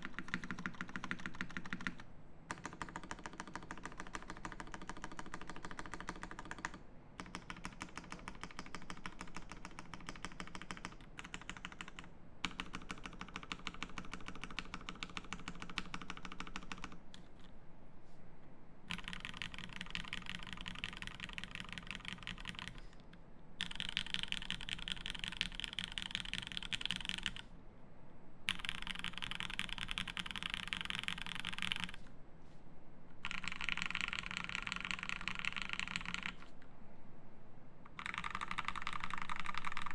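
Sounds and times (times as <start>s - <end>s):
mechanical keyboard typing: 0.0s - 17.2s, 18.9s - 22.9s, 23.6s - 27.4s, 28.5s - 32.0s, 33.2s - 36.5s, 37.9s - 39.9s.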